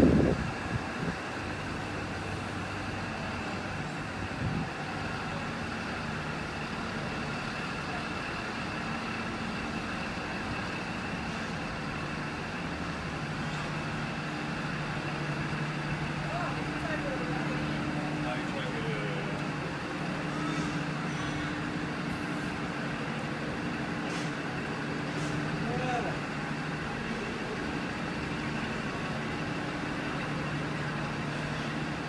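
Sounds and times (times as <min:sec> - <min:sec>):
train carriages rumbling: 0:00.0 - 0:32.0.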